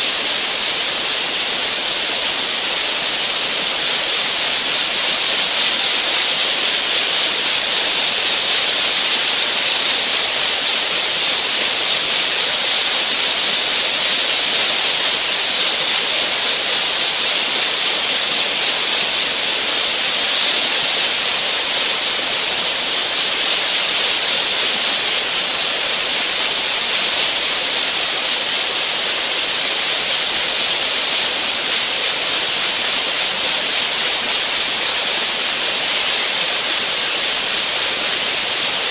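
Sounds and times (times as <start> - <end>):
soda blaster hissing: 0.0 - 38.9.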